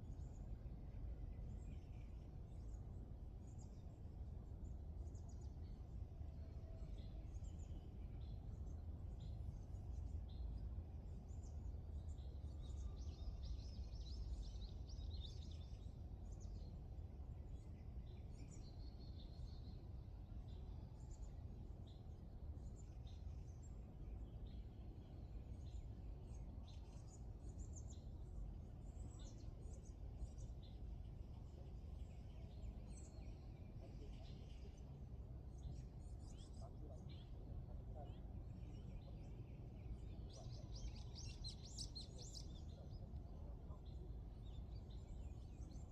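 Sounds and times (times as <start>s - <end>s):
small songbirds chirping: 0.0s - 45.9s.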